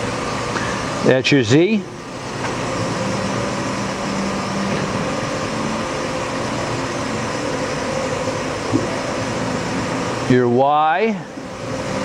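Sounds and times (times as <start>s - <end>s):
low tone from axis drive: 0.0s - 12.0s
machine hum: 0.0s - 12.0s.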